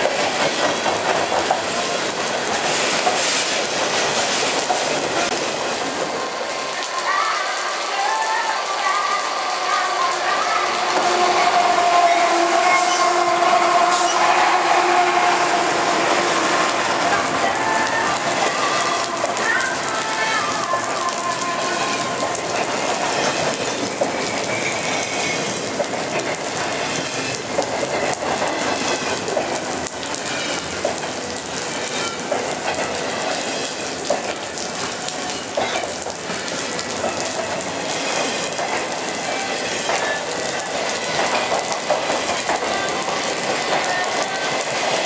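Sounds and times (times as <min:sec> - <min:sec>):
steel wheels on rails: 0:00.0 - 0:45.0.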